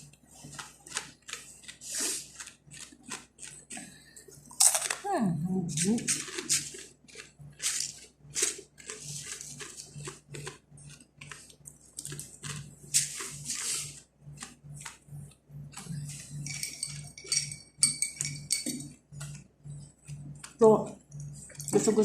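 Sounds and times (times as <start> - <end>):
crunchy bread being chewed: 0.0 - 5.1, 5.7 - 21.6.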